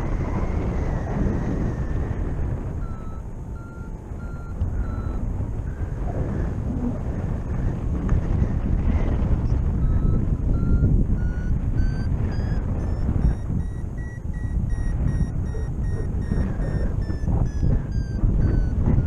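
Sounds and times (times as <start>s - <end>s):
variometer beeping pips: 0.0s - 6.4s, 9.4s - 19.0s
wind rushing over microphone: 0.0s - 19.0s.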